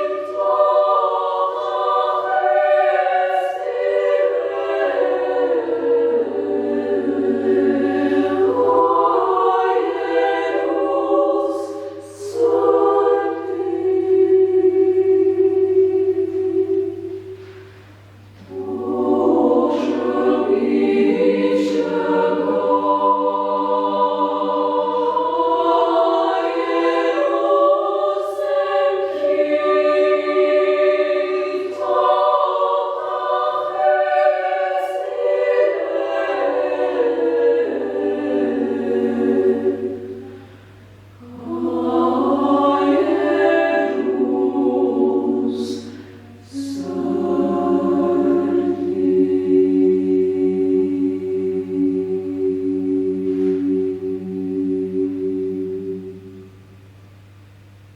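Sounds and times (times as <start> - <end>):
women's choir singing a cappella: 0.0 - 57.2.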